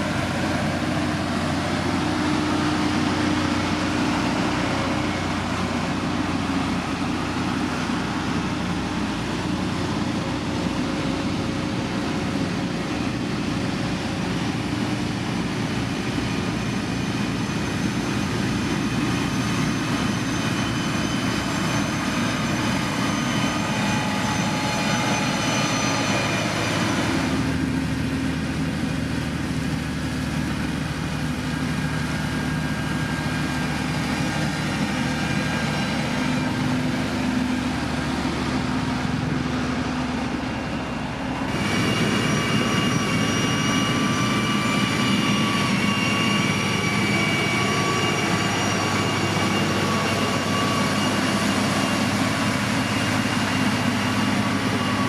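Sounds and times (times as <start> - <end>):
diesel engine of heavy machinery: 0.0 - 55.0.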